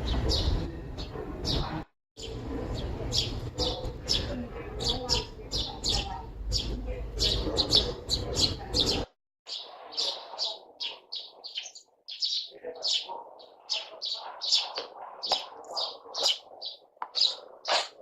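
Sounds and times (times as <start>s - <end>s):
sparrows chirping: 0.0s - 18.0s.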